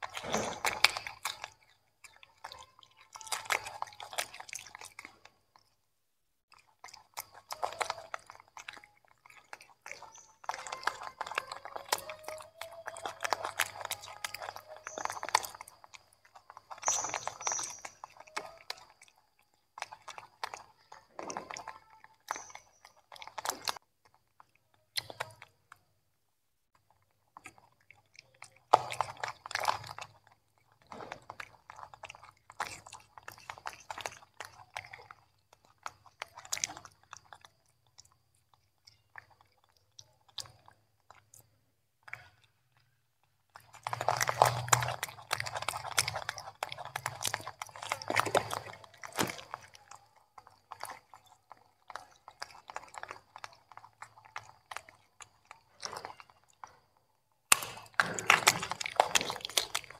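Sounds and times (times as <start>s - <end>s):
monkeys chewing and crunching: 0.0s - 5.9s, 6.5s - 59.9s.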